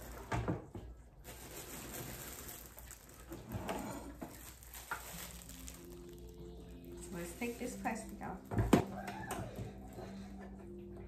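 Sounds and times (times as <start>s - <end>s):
plastic wrap rustling: 0.0s - 10.4s.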